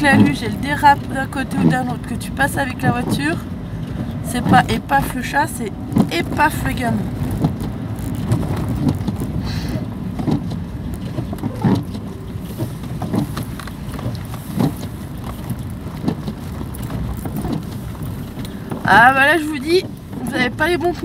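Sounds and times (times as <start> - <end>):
car engine and tyre rumble: 0.0 - 21.0
windscreen wipers knocking: 0.0 - 21.0.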